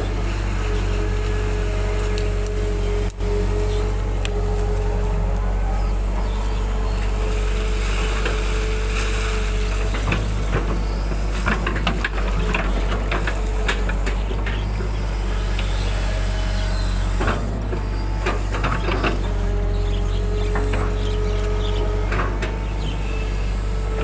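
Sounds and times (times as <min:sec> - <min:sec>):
excavator diesel engine running: 0:00.0 - 0:24.0
steady whine: 0:00.0 - 0:24.0.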